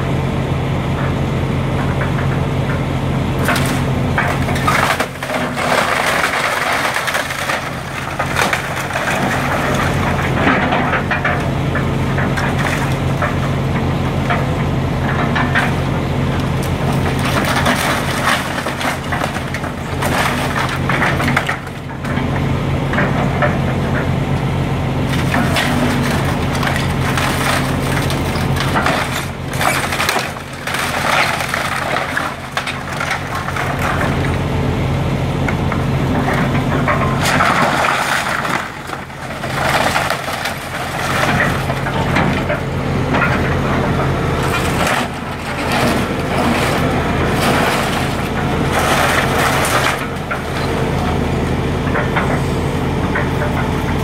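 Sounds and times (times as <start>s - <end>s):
excavator diesel engine running: 0.0s - 54.0s
wood cracking and splintering: 3.4s - 24.1s, 25.0s - 34.5s, 35.5s - 52.4s.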